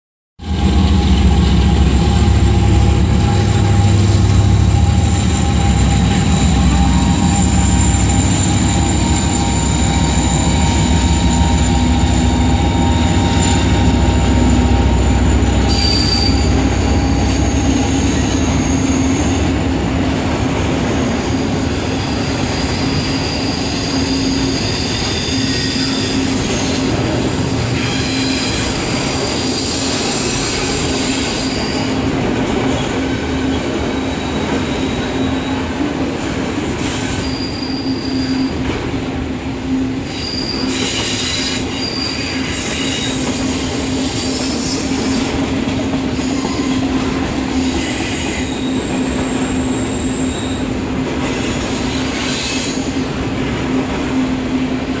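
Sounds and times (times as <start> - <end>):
diesel locomotive engine rumble: 0.4 - 55.0
train rolling on rails: 0.4 - 55.0
train wheel squeal: 0.5 - 19.8, 20.6 - 38.8, 39.6 - 55.0.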